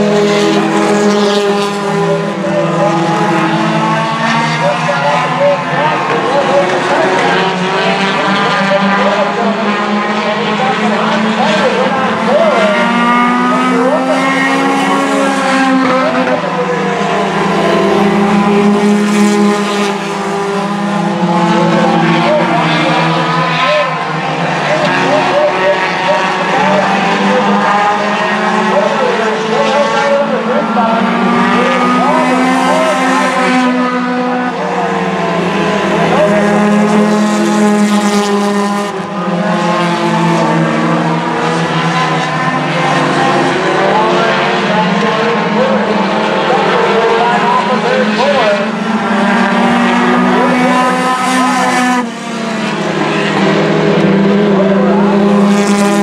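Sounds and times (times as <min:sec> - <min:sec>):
race car engines at high revs: 0:00.0 - 0:56.0.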